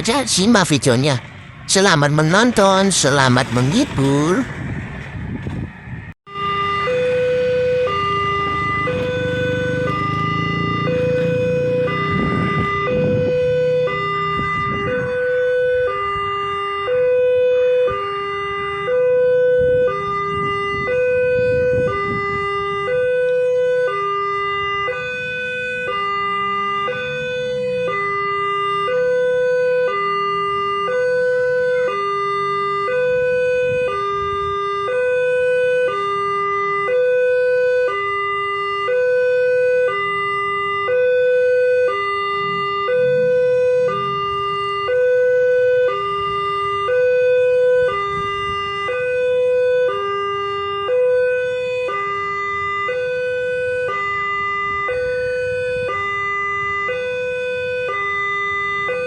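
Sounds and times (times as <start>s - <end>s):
vehicle engine rumble: 0.0s - 59.0s
two-tone level crossing alarm: 6.3s - 59.0s.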